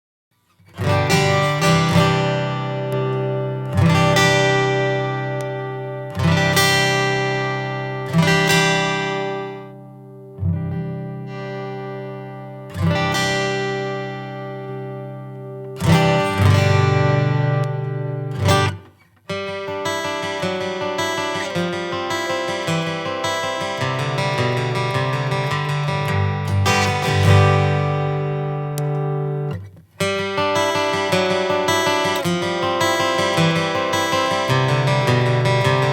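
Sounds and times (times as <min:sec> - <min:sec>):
guitar chords strummed: 0:00.5 - 0:35.9
quick steady guitar strumming: 0:00.6 - 0:35.9.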